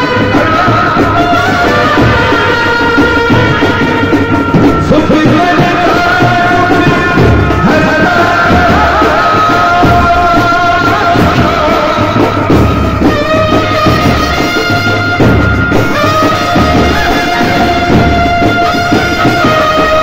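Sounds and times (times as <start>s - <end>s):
heavy drum beat: 0.0s - 20.0s
live band music: 0.0s - 20.0s
man singing into a microphone: 0.0s - 20.0s.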